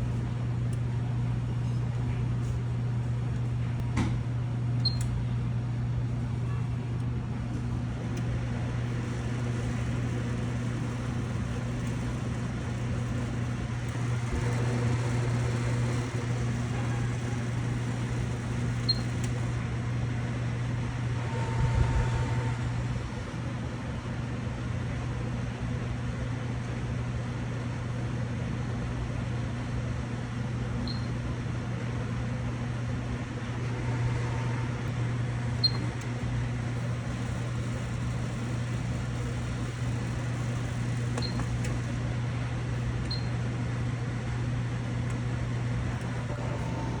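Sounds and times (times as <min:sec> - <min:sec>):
microwave oven humming: 0:00.0 - 0:47.0.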